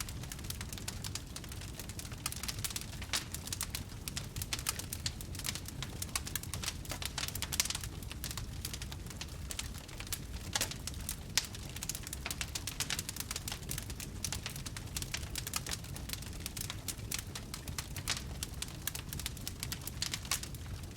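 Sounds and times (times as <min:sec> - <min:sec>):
low rumble of burning: 0:00.0 - 0:20.9
wood fire crackling: 0:00.0 - 0:20.9.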